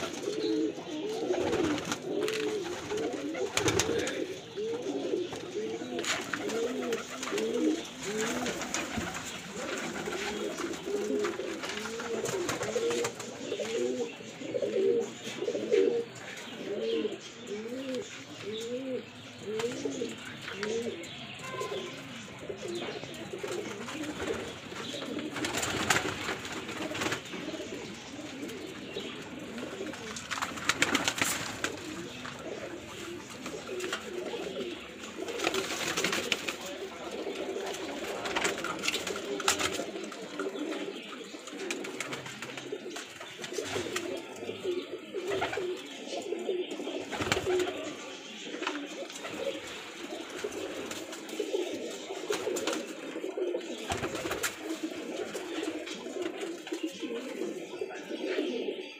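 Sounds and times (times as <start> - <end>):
pigeons cooing: 0.0 - 58.9.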